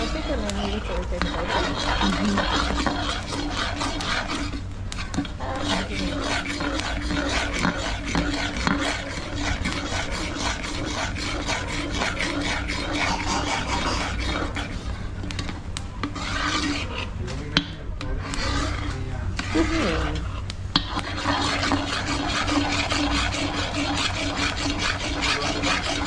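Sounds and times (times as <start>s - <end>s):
steady low rumble: 0.0s - 26.0s
utensil scraping cooking vessel: 0.0s - 26.0s.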